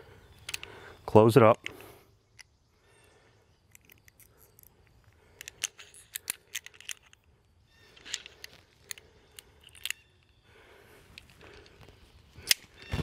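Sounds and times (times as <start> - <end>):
belay device and carabiner clicking: 0.3 - 0.8, 1.5 - 2.6, 3.6 - 13.0.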